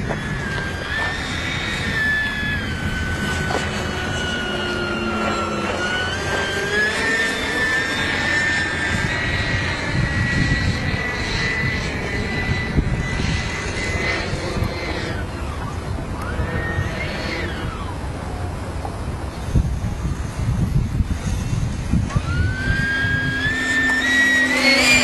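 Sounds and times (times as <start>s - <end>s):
electric ducted fan whining: 0.0s - 25.0s.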